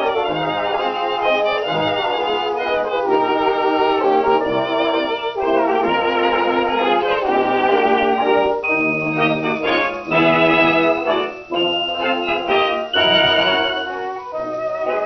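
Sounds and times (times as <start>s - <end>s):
dance orchestra playing a waltz: 0.0s - 15.0s.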